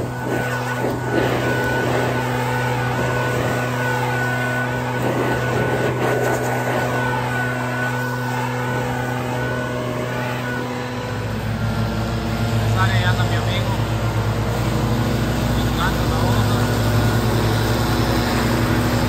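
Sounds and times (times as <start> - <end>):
leaf blower engine: 0.0 - 19.0.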